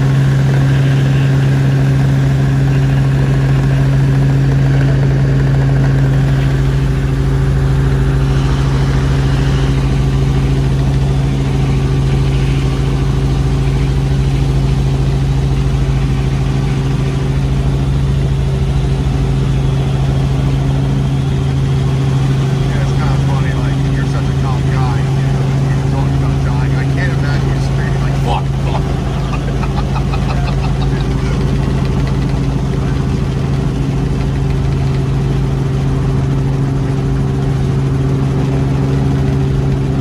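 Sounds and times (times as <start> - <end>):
constant low hum: 0.0 - 40.0
helicopter engine and rotor drone: 0.0 - 40.0.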